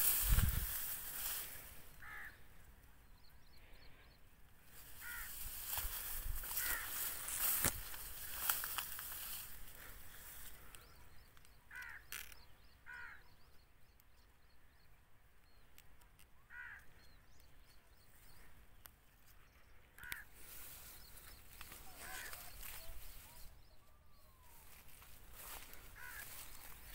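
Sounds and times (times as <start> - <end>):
faint bird calls: 0.0 - 26.9.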